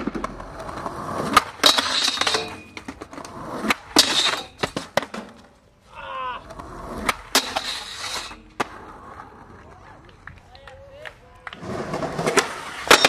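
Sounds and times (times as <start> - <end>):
skateboard hitting ground: 0.0 - 5.6, 6.4 - 13.0.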